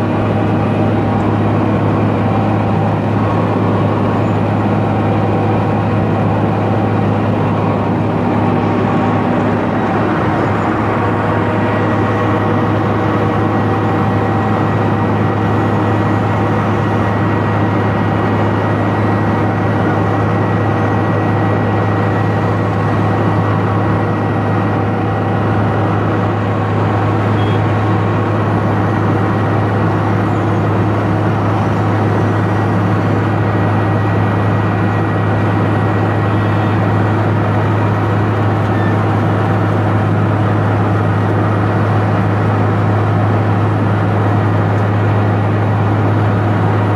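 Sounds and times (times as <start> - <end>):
milling machine hum: 0.0 - 46.9.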